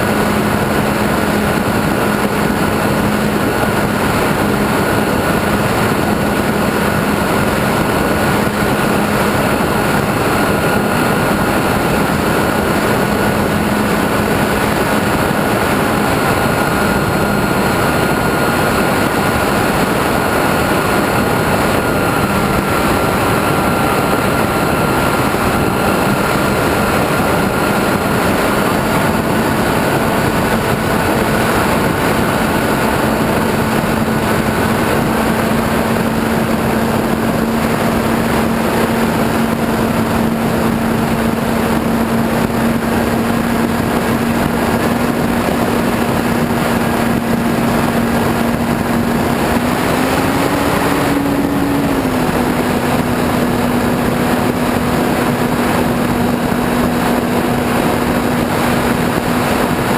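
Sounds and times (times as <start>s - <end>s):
model airplane motor droning: 0.0s - 59.9s
wind rush on microphone: 0.0s - 59.9s.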